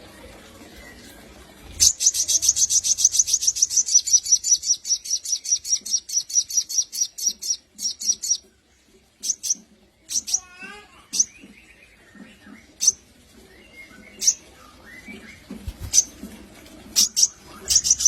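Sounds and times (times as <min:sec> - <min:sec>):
bird singing rapid chirps: 0:01.8 - 0:08.4, 0:09.2 - 0:16.1, 0:17.0 - 0:18.0.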